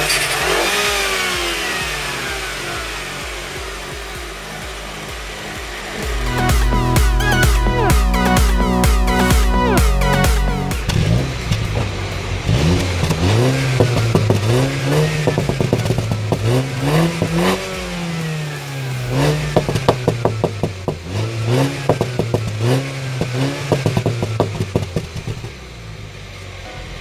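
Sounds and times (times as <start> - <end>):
exhaust pops and crackles: 0.0 - 6.8, 10.8 - 25.7
car engine revving: 0.0 - 27.0.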